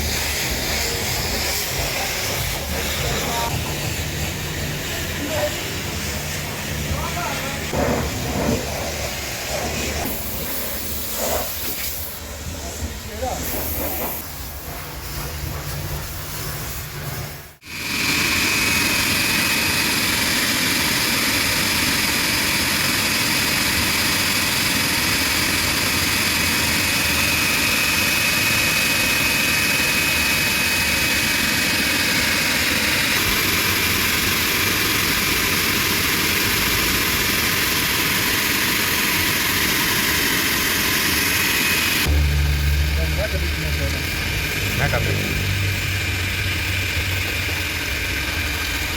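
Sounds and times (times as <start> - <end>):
pressure washer spraying: 0.0 - 48.9.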